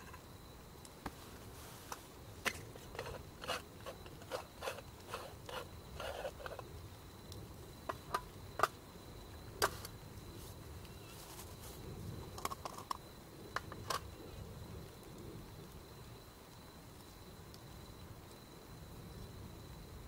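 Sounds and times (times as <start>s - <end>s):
campfire wood crackling and popping: 0.0s - 20.0s.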